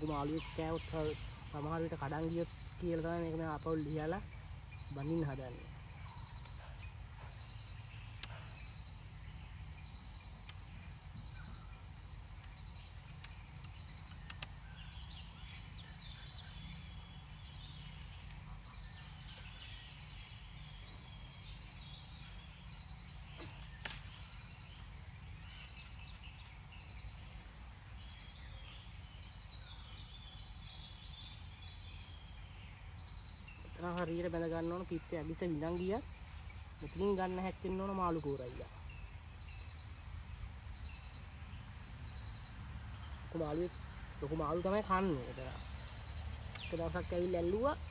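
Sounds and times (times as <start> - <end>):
birds chirping: 0.0 - 47.9
high insect drone: 0.0 - 47.9.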